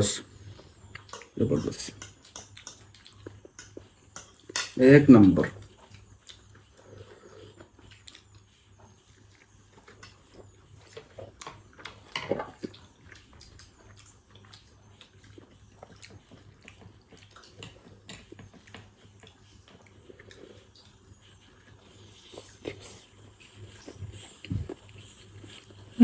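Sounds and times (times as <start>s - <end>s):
wet chewing: 0.2s - 26.0s.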